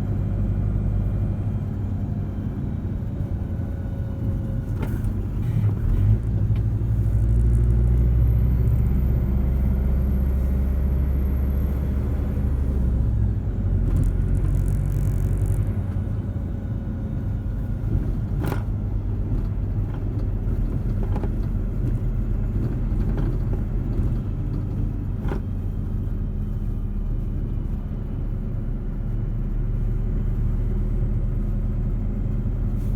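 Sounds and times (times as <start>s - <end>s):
low steady rumble: 0.0s - 32.9s.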